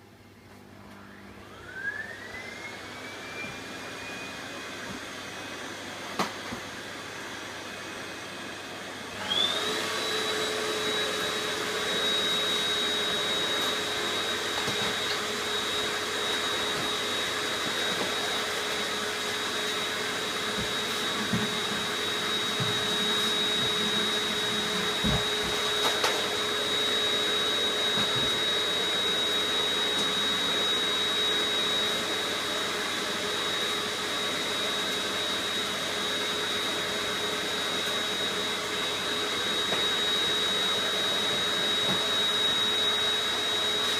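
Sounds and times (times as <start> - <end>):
vacuum cleaner whining: 0.0 - 43.9.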